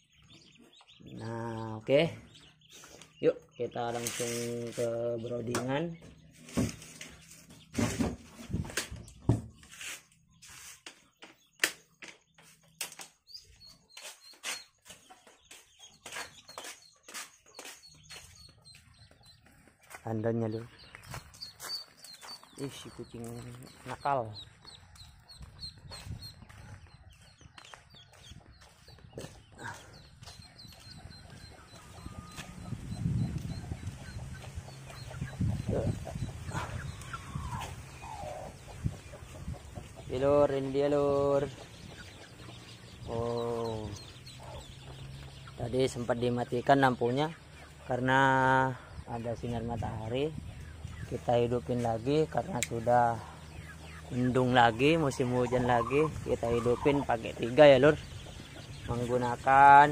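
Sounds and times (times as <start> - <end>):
chickens clucking: 0.0 - 59.9
ducklings peeping: 0.0 - 59.9.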